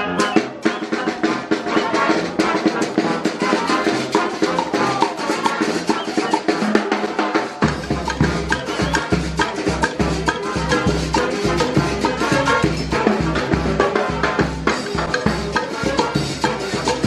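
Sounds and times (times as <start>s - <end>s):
fast drums and percussion: 0.0s - 17.0s.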